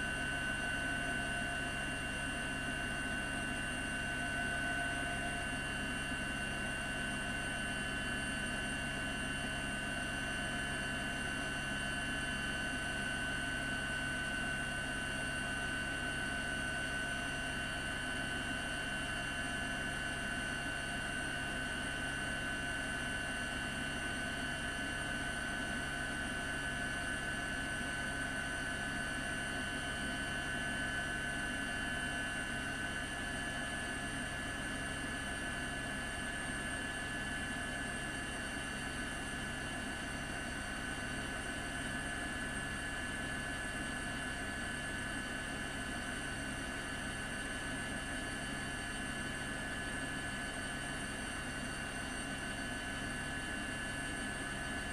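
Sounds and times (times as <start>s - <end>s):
helicopter engine drone: 0.0s - 54.9s.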